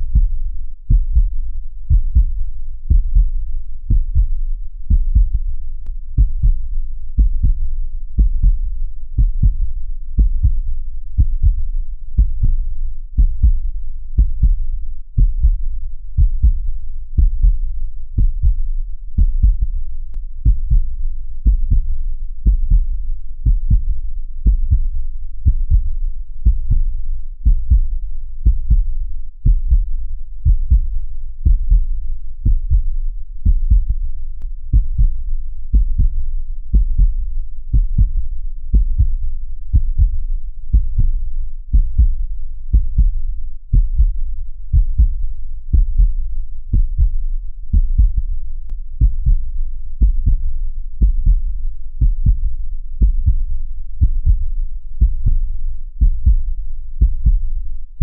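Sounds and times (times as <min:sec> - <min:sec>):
heartbeat double thumps: 0:00.0 - 0:58.0.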